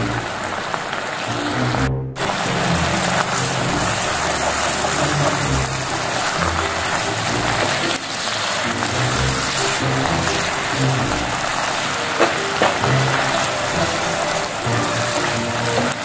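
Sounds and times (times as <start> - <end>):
background music: 0.0 - 16.0
sauce bubbling in frying pan: 0.0 - 16.0.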